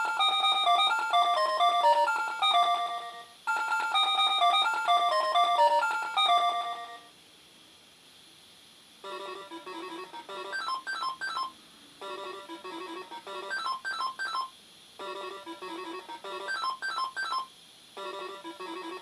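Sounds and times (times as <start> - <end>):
electronic beeping jingle: 0.0 - 7.0, 9.1 - 19.0.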